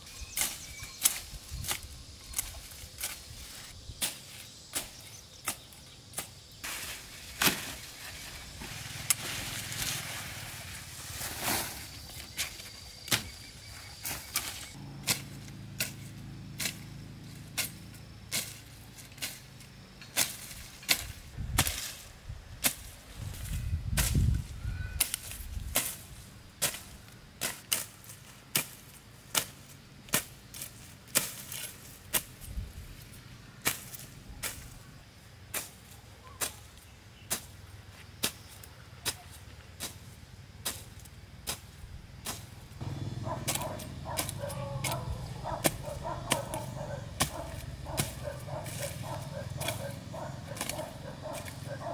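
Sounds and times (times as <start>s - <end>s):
outdoor background noise: 0.0s - 51.9s.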